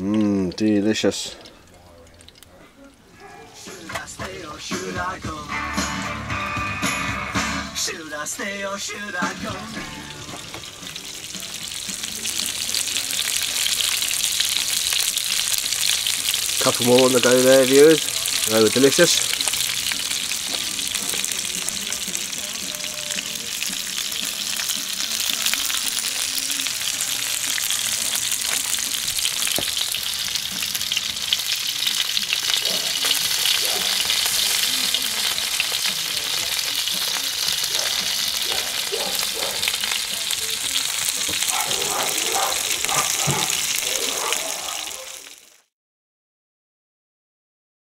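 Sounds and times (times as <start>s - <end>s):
sausages sizzling in a frying pan: 0.0s - 45.7s.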